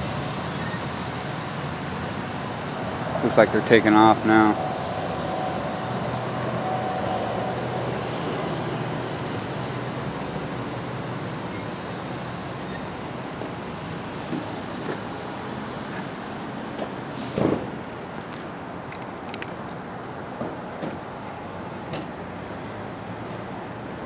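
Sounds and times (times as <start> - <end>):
vehicle engines idling: 0.0 - 24.0.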